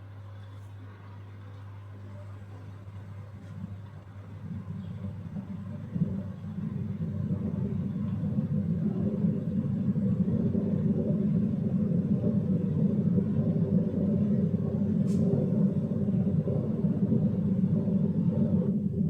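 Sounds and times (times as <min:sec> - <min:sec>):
washing machine rumbling: 0:00.0 - 0:19.0.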